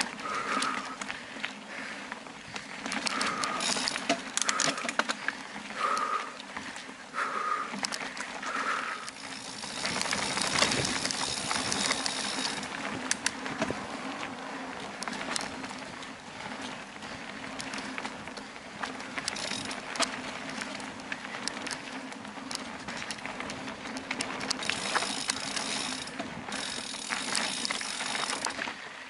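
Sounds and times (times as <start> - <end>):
bike clattering over bumps: 0.0 - 6.8, 7.4 - 28.8
bike tyres on dirt trail: 0.0 - 29.0.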